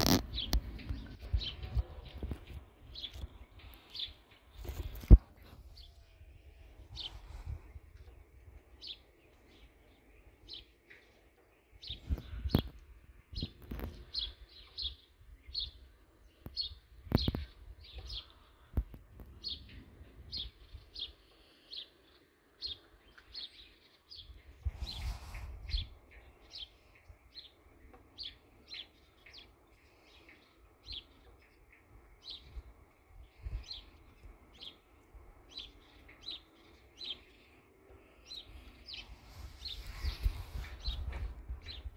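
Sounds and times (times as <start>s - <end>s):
bird chirping: 0.0s - 6.3s, 8.0s - 18.8s, 19.4s - 41.9s.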